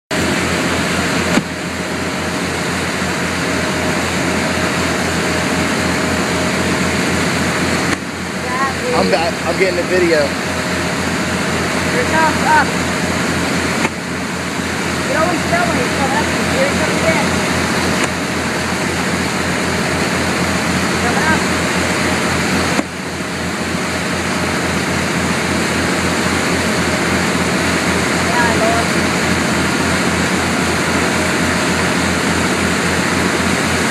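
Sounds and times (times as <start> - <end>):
boat engine drone: 0.1 - 33.9
wake water rushing: 0.1 - 33.9
wind: 0.1 - 33.9.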